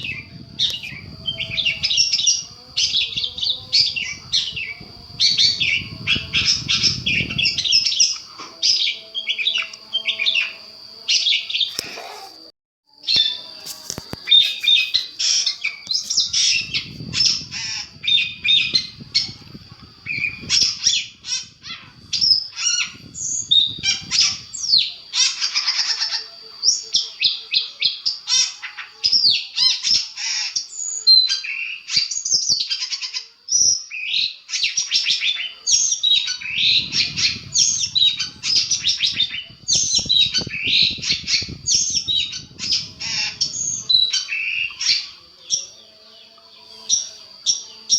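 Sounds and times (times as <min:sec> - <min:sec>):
shrike singing harsh chatter: 0:00.0 - 0:33.4, 0:34.0 - 0:47.9.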